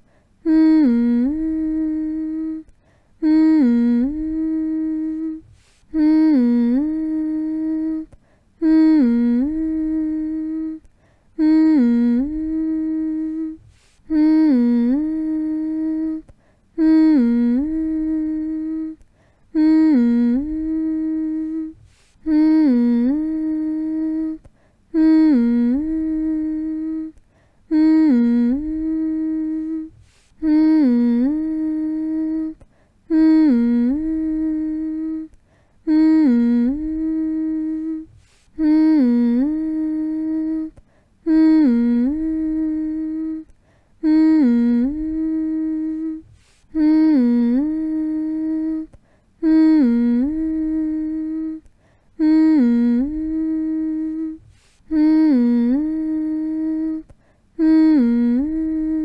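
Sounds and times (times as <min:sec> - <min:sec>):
person humming long notes: 0:00.4 - 0:59.0.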